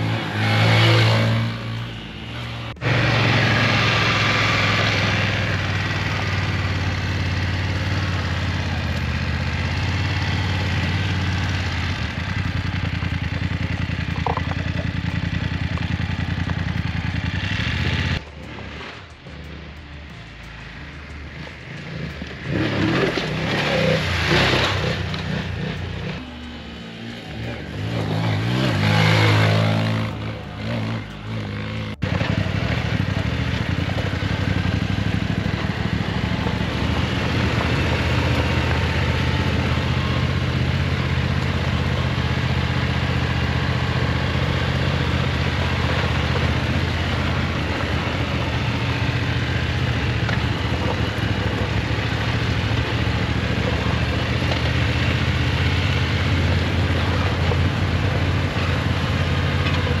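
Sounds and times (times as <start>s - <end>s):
dirt bike engine revving: 0.0s - 60.0s
motorcycle engine running: 0.0s - 60.0s.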